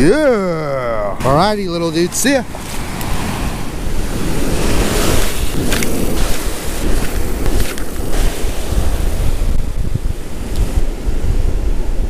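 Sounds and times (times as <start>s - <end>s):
wind buffeting microphone: 0.0s - 12.0s
ocean surf washing up beach: 0.1s - 12.0s.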